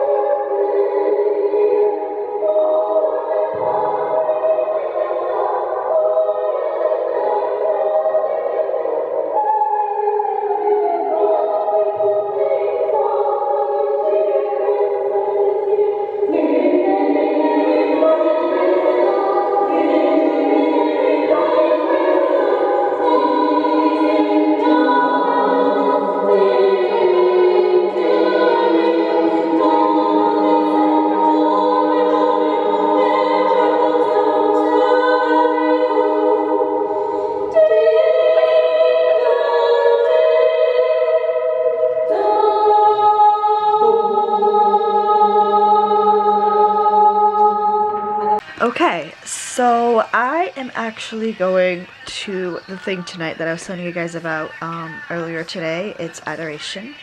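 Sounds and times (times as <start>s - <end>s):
choir singing held notes: 0.0s - 57.0s.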